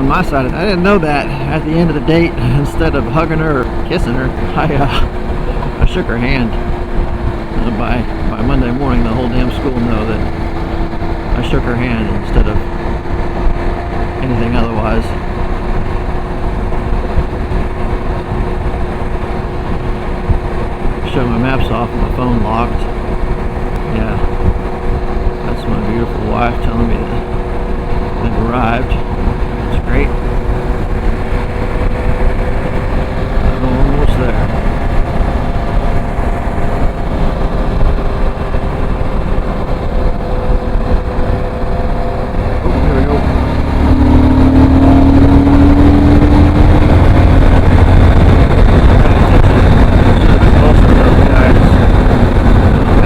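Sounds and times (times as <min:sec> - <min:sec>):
motorcycle engine drone: 0:00.0 - 0:53.0
wind rush: 0:00.0 - 0:53.0.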